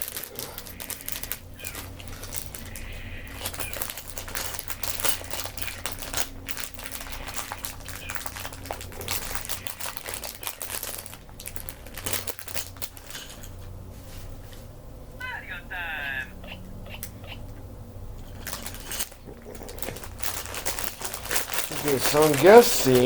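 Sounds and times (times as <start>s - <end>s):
plastic packaging crinkling: 0.0s - 14.4s, 18.2s - 23.0s.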